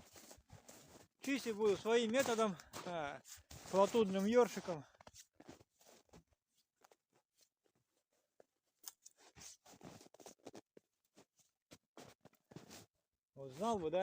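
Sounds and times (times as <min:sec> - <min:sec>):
faint clicks and scrapes of handling: 0:01.9 - 0:13.7.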